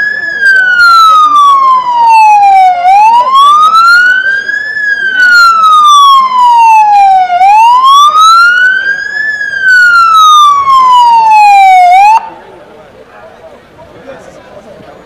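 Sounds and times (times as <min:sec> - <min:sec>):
electronic siren wailing: 0:00.0 - 0:12.3.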